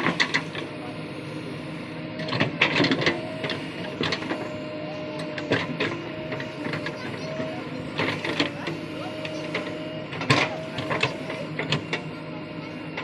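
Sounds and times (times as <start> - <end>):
backhoe loader mechanical whine: 0.0 - 13.0.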